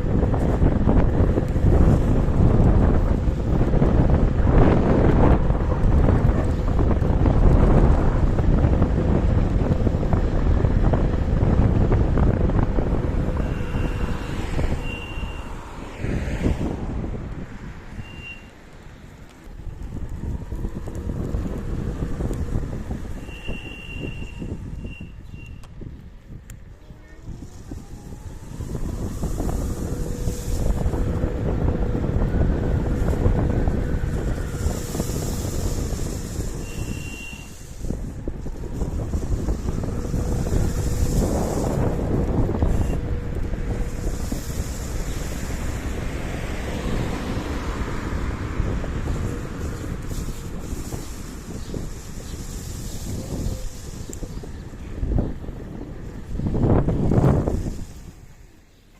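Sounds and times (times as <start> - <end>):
scooter road rumble: 0.0 - 58.9
wind buffeting microphone: 0.0 - 58.9.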